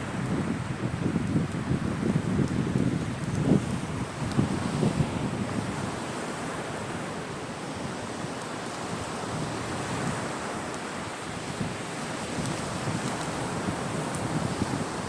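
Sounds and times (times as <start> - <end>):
sea surf washing on beach: 0.0 - 15.0
wind buffeting microphone: 0.0 - 15.0.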